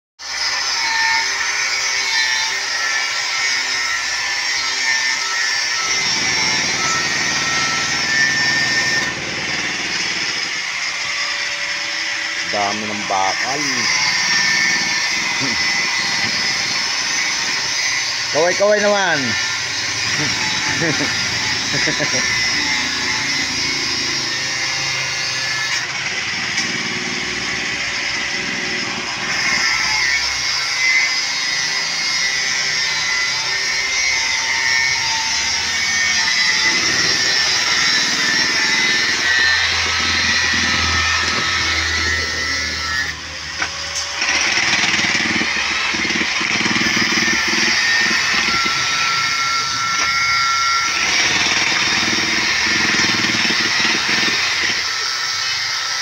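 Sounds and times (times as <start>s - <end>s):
angle grinder cutting steel: 0.2s - 56.0s.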